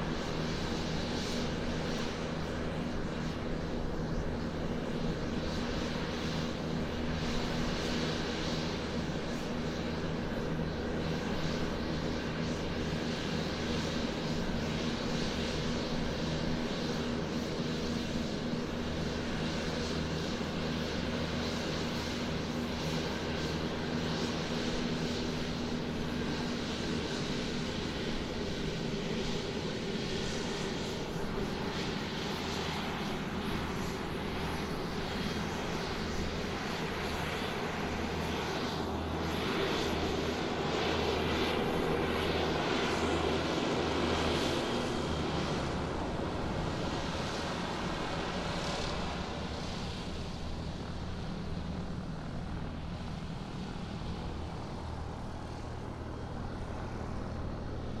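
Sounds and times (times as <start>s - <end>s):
airplane engines droning: 0.0s - 58.0s.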